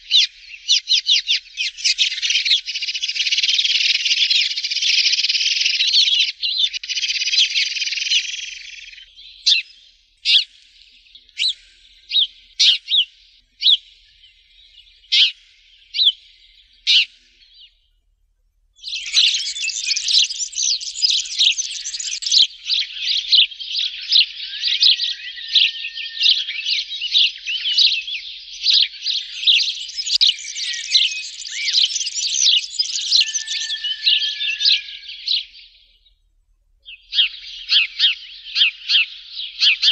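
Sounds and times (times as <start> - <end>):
sparrows chirping: 0.0 - 18.0, 18.8 - 36.2, 36.8 - 39.9.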